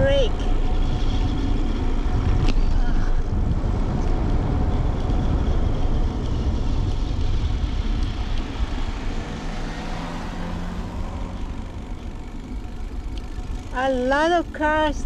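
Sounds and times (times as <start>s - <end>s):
bicycle tyre rumble: 0.0s - 15.0s
faint car engine hum: 0.0s - 15.0s
wind buffeting microphone: 0.0s - 15.0s.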